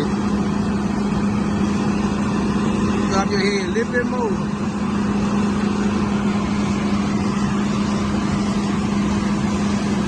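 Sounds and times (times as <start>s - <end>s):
combine harvester engine drone: 0.0s - 10.0s.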